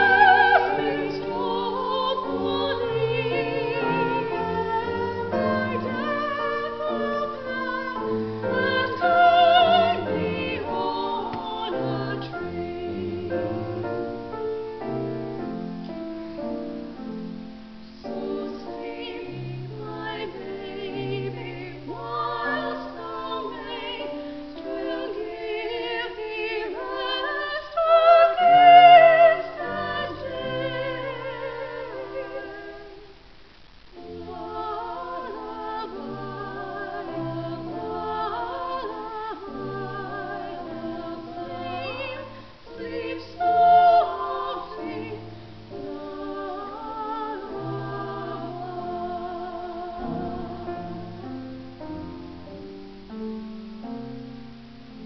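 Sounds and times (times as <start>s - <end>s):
women singing a carol in parts: 0.0s - 15.6s, 16.8s - 33.2s, 34.0s - 51.4s.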